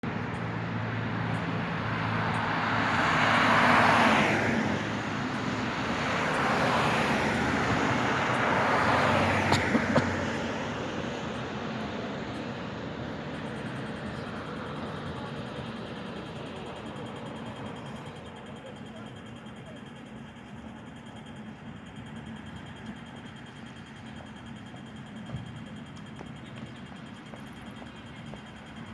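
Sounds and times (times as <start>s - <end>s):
tram wheels rolling on rails: 4.6s - 28.9s.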